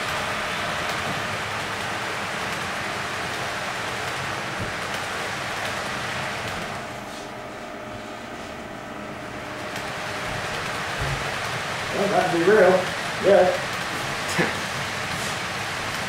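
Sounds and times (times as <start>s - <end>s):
model train wheels on rails: 0.0s - 7.2s, 9.4s - 16.0s.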